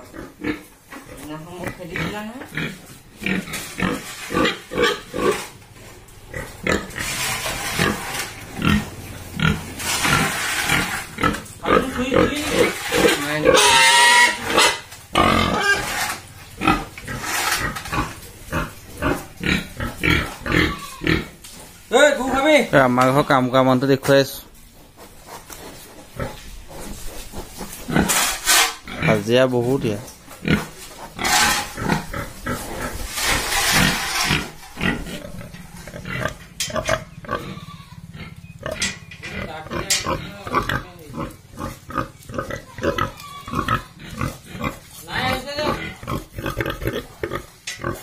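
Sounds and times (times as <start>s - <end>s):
pigs squealing: 0.0s - 23.4s, 25.1s - 29.3s, 30.4s - 48.0s
pigs grunting: 0.0s - 23.6s, 24.4s - 48.0s.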